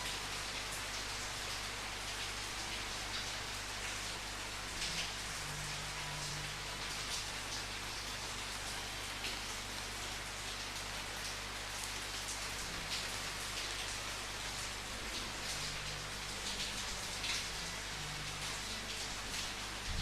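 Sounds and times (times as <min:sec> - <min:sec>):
raindrops splashing: 0:00.0 - 0:20.0
steady rain hiss: 0:00.0 - 0:20.0.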